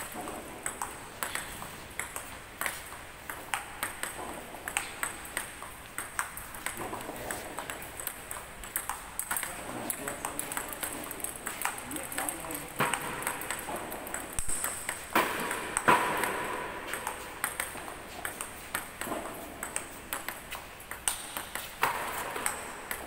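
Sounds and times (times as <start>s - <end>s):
table tennis balls clicking: 0.0s - 23.0s.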